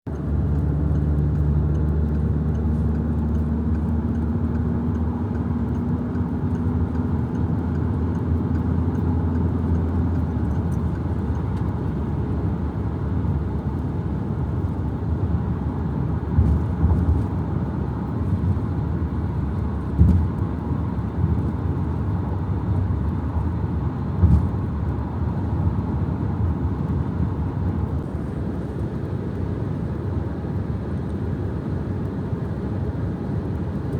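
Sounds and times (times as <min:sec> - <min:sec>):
engine hum: 0:00.0 - 0:33.9
tyre and engine rumble: 0:00.1 - 0:33.9.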